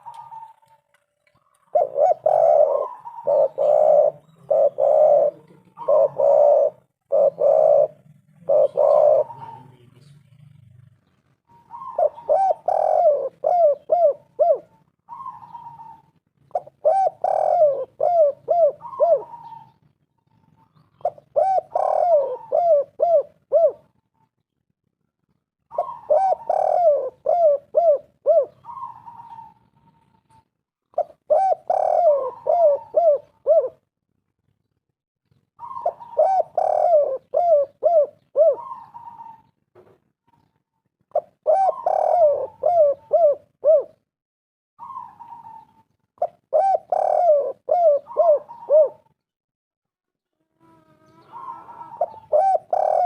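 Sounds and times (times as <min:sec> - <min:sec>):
dove cooing: 0:00.0 - 0:10.0, 0:11.4 - 0:24.2, 0:25.7 - 0:33.9, 0:35.6 - 0:44.0, 0:44.8 - 0:49.2, 0:50.4 - 0:53.0.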